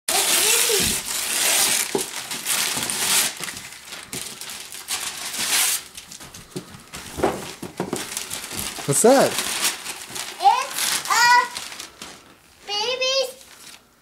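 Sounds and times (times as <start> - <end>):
wrapping paper tearing and rustling: 0.1 - 13.9.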